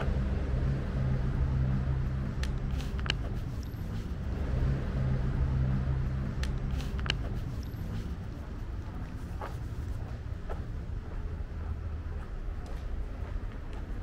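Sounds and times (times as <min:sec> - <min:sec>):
city street rumble and hum: 0:00.0 - 0:14.0.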